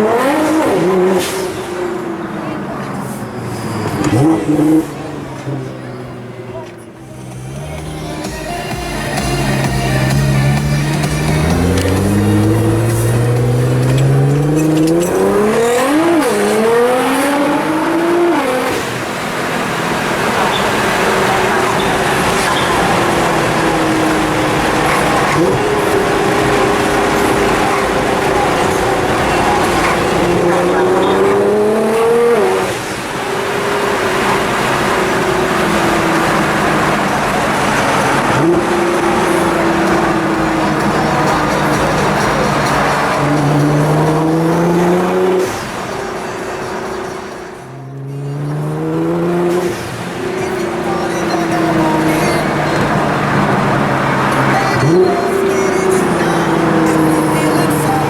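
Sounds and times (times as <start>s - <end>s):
car engine accelerating hard: 0.0s - 58.0s
gear upshift: 0.0s - 58.0s.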